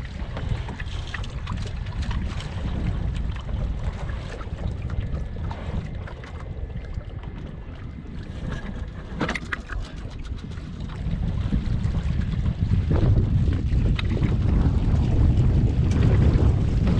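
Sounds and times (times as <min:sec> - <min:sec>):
water splashing against hull: 0:00.0 - 0:16.9
wind rumble on microphone: 0:00.0 - 0:16.9.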